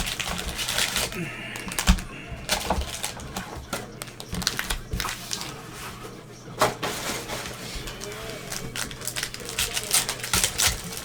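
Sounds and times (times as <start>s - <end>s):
cards clicking and rustling: 0.0s - 11.0s.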